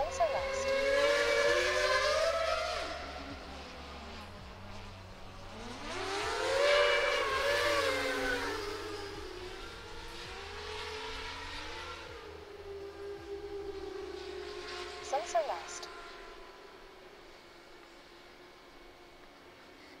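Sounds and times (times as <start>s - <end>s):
quadcopter propeller whine: 0.0s - 20.0s.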